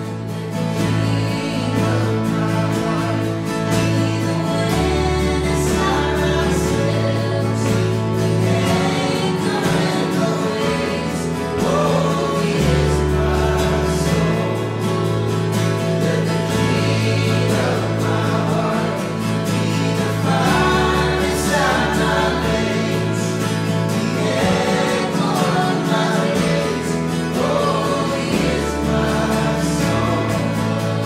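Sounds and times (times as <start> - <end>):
bass line: 0.0 - 31.0
group singing: 0.0 - 31.0
strummed guitars: 0.0 - 31.0.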